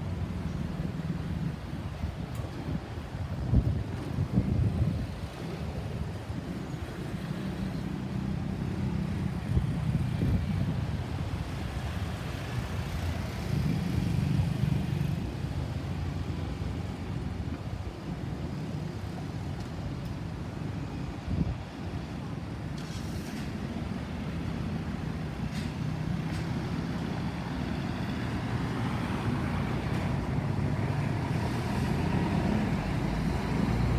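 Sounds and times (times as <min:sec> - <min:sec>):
road traffic rumble: 0:00.0 - 0:33.9.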